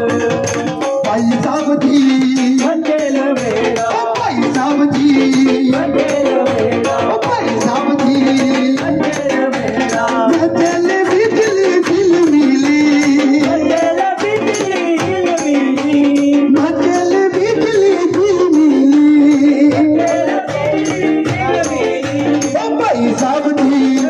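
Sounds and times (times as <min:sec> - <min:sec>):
folk music: 0:00.0 - 0:24.0
percussion beat: 0:00.0 - 0:24.0.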